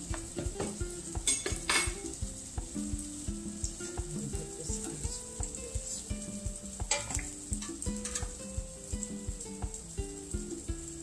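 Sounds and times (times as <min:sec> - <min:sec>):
background music with beat: 0:00.0 - 0:11.0
patty sizzling in oil: 0:00.0 - 0:11.0.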